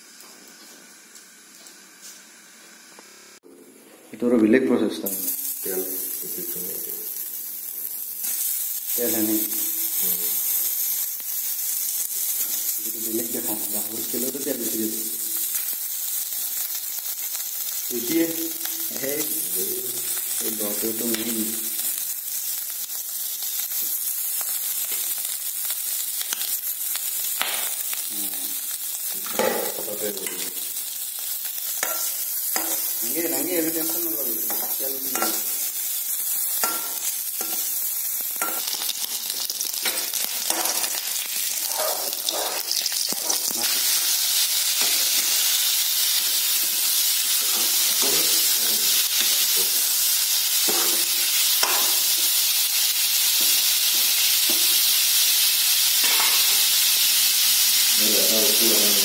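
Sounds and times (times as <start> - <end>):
pork frying in oil: 0.0 - 3.4, 5.0 - 59.0.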